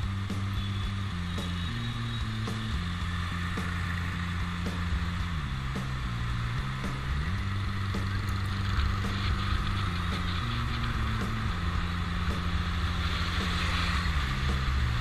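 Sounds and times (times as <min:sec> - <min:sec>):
motorbike engine running: 0:00.0 - 0:15.0
wind and road noise: 0:00.0 - 0:15.0.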